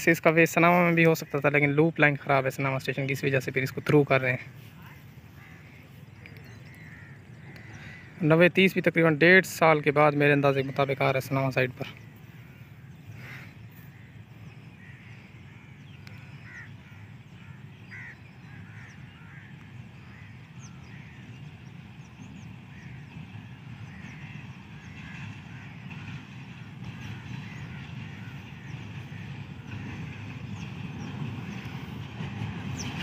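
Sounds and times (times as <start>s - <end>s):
birds chirping and calling: 0.0s - 33.0s
diesel locomotive rumble: 0.0s - 33.0s.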